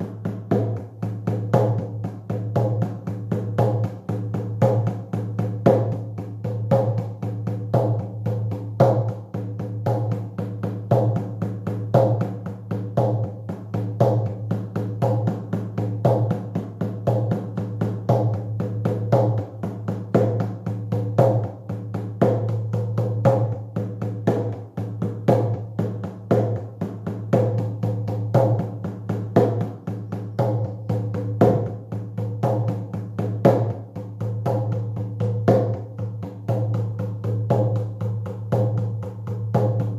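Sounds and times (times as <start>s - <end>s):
hand drum beaten fast: 0.0s - 39.9s.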